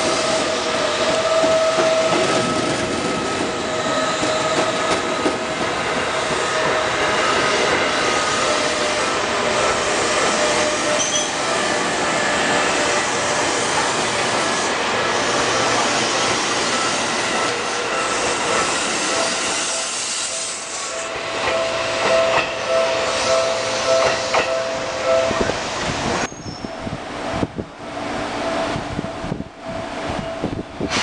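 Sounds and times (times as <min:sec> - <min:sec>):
electric train passing: 0:00.0 - 0:31.0.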